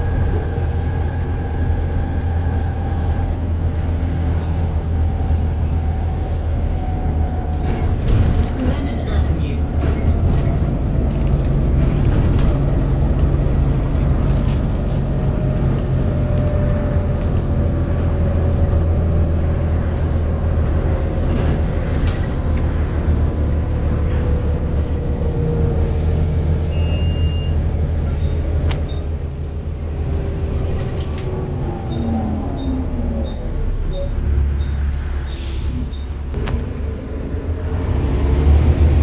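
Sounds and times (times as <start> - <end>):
bus engine droning: 0.0 - 39.0.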